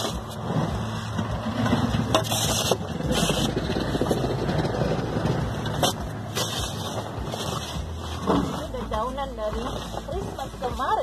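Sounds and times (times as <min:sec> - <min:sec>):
snow shovel scraping: 0:00.0 - 0:11.0
steady low rumble: 0:00.0 - 0:11.0.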